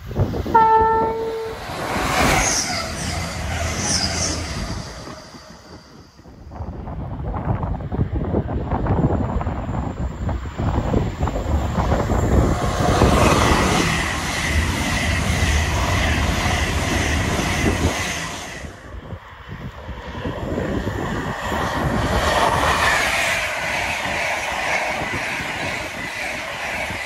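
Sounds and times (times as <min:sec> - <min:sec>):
high train whine: 0:00.0 - 0:27.0
train wheels rushing on rail: 0:00.0 - 0:27.0.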